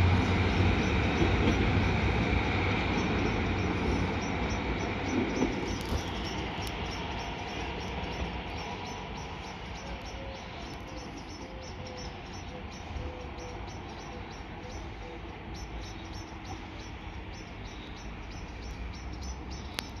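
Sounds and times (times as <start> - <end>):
bird chirping: 3.0 - 20.0.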